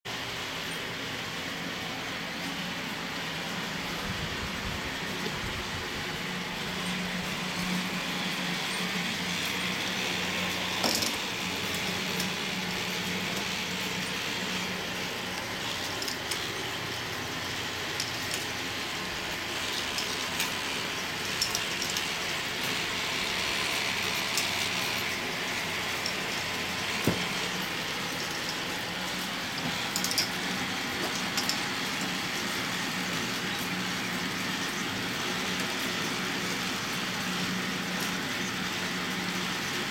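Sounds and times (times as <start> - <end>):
motors and chains humming: 0.1 - 39.9.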